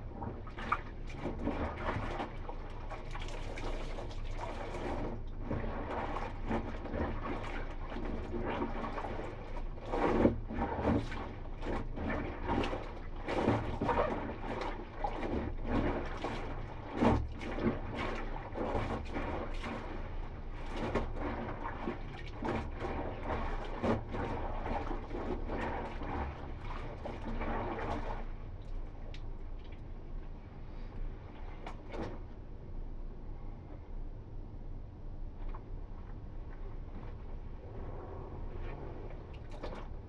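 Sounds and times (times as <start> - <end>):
water sloshing and splashing in basin: 0.0 - 32.5, 35.4 - 40.0.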